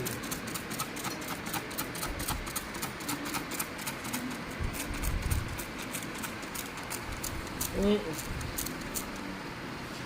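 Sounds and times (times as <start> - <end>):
window air conditioner running: 0.0 - 10.0.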